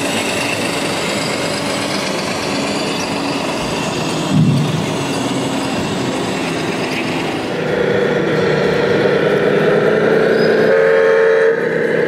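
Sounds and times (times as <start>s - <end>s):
model trucks humming: 0.0s - 12.0s.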